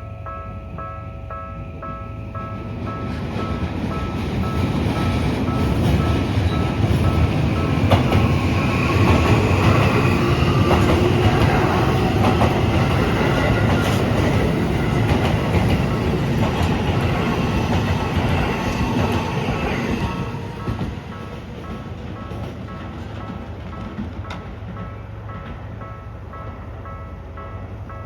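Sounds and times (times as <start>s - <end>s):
crossing warning bell: 0.0s - 28.0s
train wheels rumbling on rails: 0.7s - 28.0s.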